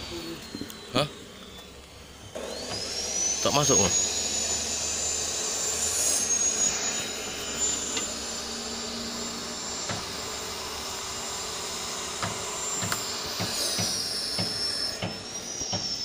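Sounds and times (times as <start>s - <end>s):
high unchanging whine: 0.0s - 16.0s
machine drone: 0.0s - 16.0s.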